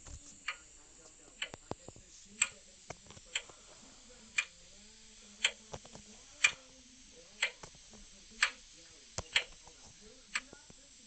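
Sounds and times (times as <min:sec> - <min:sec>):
clock ticking: 0:00.4 - 0:03.6, 0:04.3 - 0:10.8.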